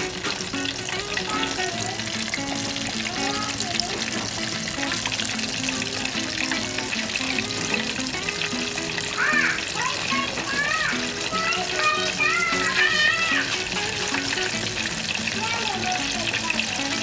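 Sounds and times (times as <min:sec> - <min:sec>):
background music: 0:00.0 - 0:17.0
oil bubbling and crackling: 0:00.0 - 0:17.0.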